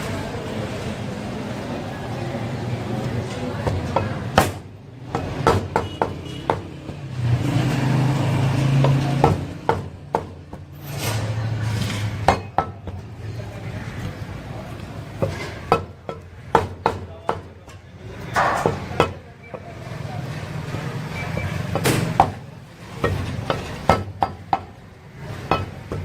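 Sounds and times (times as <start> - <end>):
street market background noise: 0.0 - 26.0.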